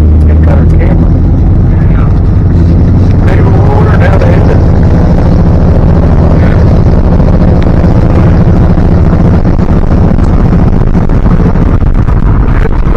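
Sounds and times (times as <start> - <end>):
road and wind noise: 0.0 - 12.9
truck engine drone: 0.0 - 12.9.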